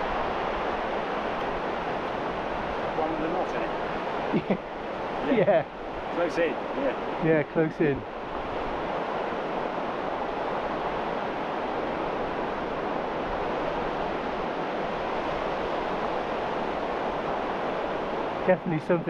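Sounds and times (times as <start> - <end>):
surf breaking on shore: 0.0 - 19.0.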